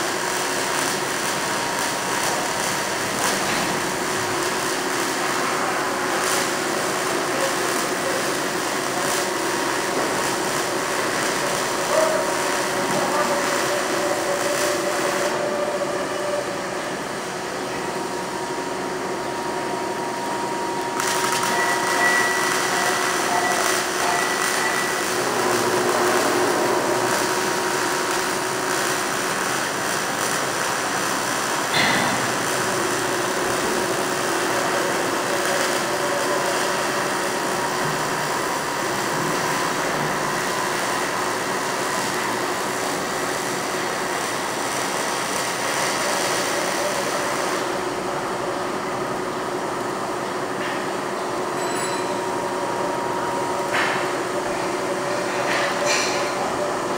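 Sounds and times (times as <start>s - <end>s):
welding arc crackling and hissing: 0.0s - 51.6s, 52.2s - 56.9s.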